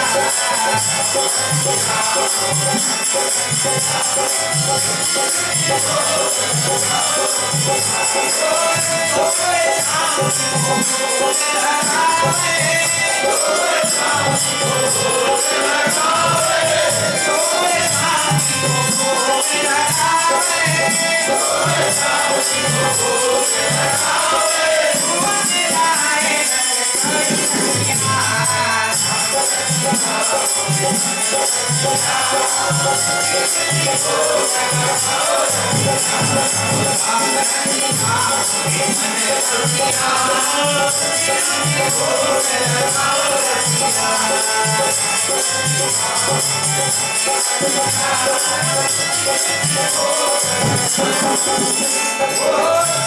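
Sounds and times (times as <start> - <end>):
dholak drum beat: 0.0 - 53.0
jingling hand percussion: 0.0 - 53.0
voices singing together: 0.0 - 53.0.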